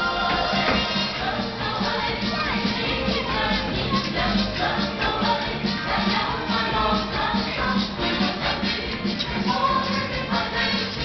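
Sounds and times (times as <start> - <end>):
upbeat parade music: 0.0 - 11.0.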